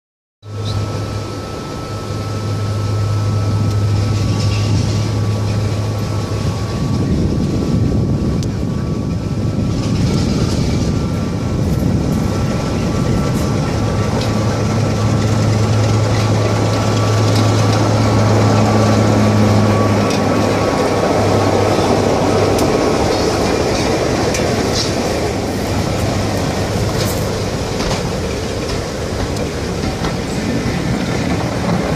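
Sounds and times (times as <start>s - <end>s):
diesel locomotive engine drone: 0.4s - 31.9s.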